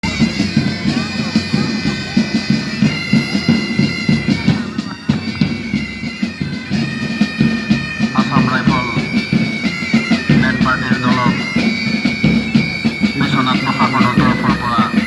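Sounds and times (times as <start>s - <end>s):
bagpipes playing melody: 0.0s - 15.0s
drumbeat: 0.0s - 15.0s.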